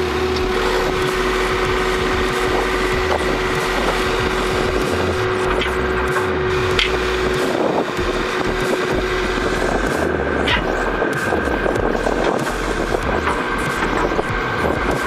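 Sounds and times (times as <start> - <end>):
diesel engine of construction machinery: 0.0 - 15.0
steady machine whine: 0.0 - 15.0
wind on the microphone: 0.4 - 15.0.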